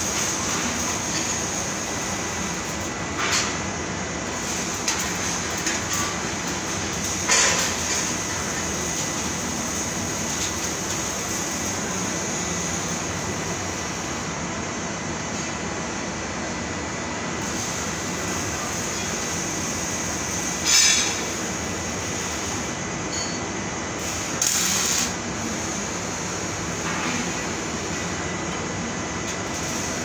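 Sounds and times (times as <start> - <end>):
machinery and ventilation noise: 0.0 - 30.0.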